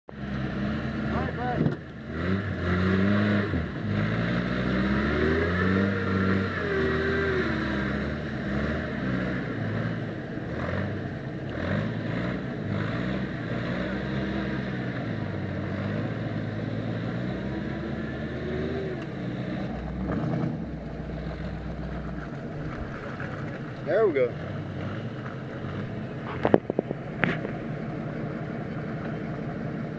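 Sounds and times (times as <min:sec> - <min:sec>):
vehicle engine revving: 0:00.1 - 0:29.9.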